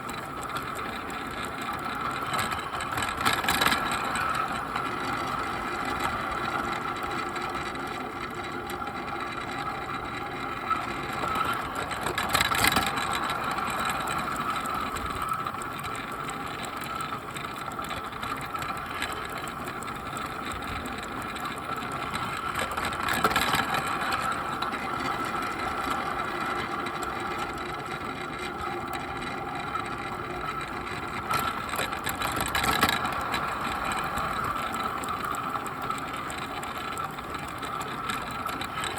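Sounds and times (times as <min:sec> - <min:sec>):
train clatters: 0:00.0 - 0:38.9
wheels rumbling on rails: 0:00.0 - 0:38.9.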